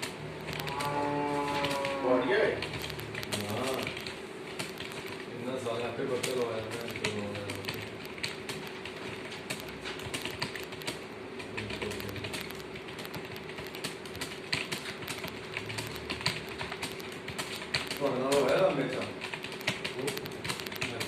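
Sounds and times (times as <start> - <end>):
faint steady hum: 0.0 - 21.0
rapid keyboard typing: 0.0 - 21.0.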